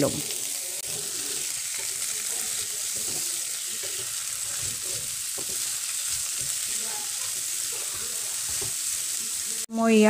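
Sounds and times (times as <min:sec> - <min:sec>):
vegetables sizzling in oil: 0:00.0 - 0:10.0
spatula scraping a pan: 0:00.8 - 0:09.3.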